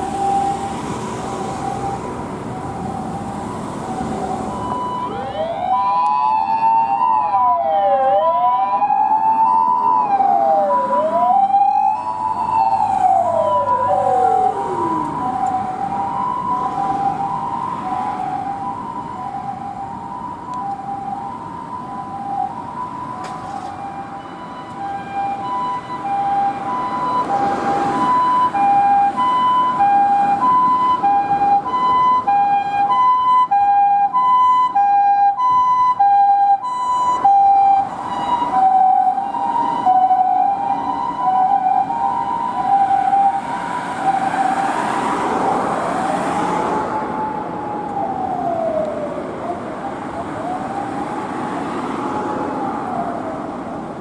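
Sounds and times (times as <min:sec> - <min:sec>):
ambulance siren two-tone call: 0:00.0 - 0:54.0
siren rising and falling wails: 0:00.0 - 0:54.0.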